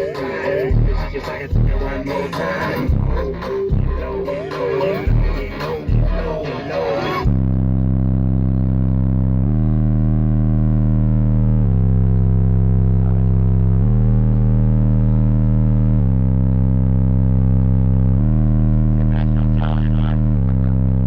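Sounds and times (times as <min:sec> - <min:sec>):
distorted subwoofer bass notes: 0:00.0 - 0:21.0.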